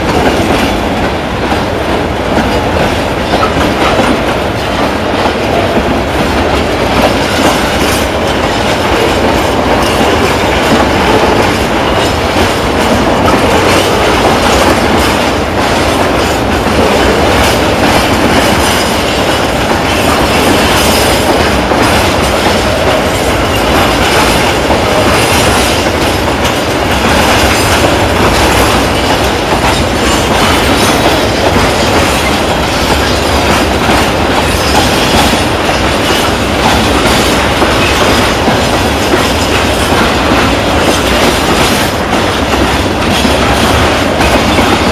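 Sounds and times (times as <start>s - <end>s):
rail-joint clatter: 0.0s - 44.9s
train wheels rumbling on rails: 0.0s - 44.9s.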